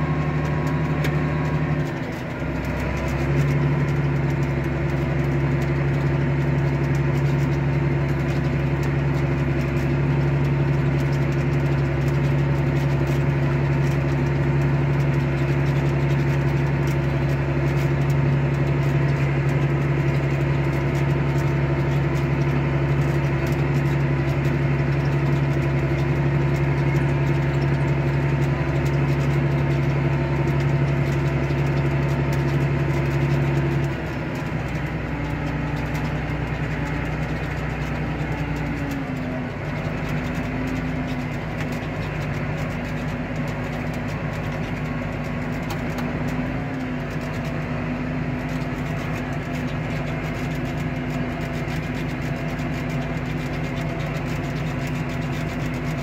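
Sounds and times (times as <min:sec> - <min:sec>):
tractor engine droning: 0:00.0 - 0:56.0.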